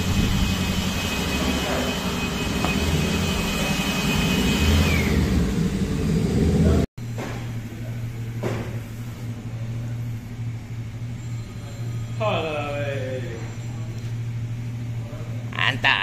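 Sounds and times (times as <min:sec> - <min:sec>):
vehicle engine and road noise: 0:00.0 - 0:15.6
low hum: 0:00.0 - 0:16.0.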